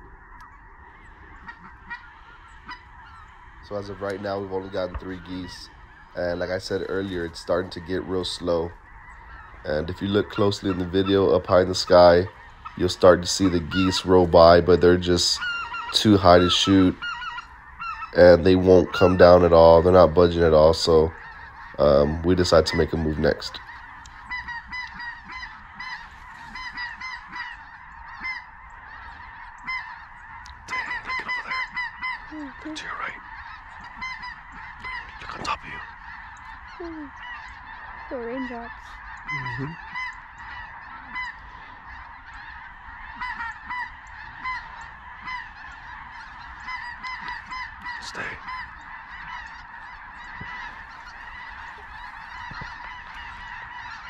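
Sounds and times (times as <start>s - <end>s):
flock of geese honking: 0.0s - 54.0s.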